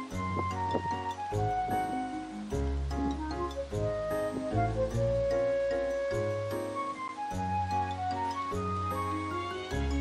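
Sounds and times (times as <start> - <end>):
soft melodic instrumental music: 0.0 - 10.0.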